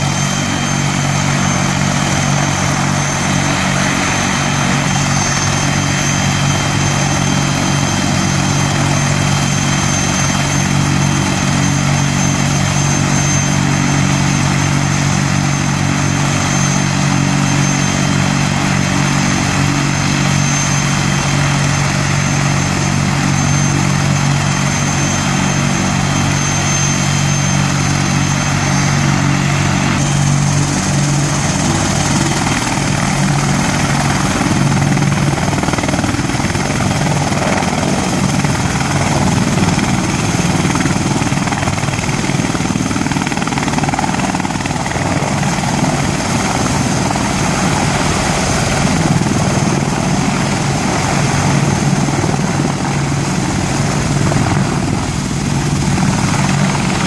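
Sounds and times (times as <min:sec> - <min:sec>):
helicopter engines and rotors humming: 0:00.0 - 0:57.0
high turbine whine: 0:00.0 - 0:57.0.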